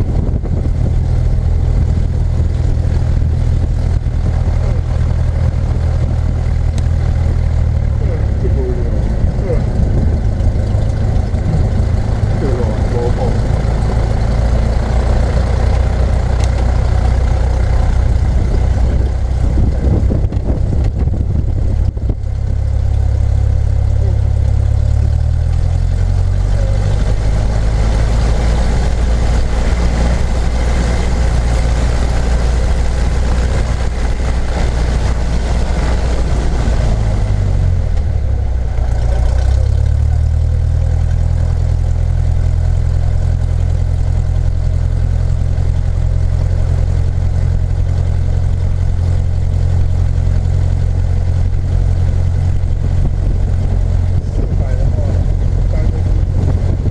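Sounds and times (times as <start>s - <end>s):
vehicle engine droning: 0.0s - 56.9s.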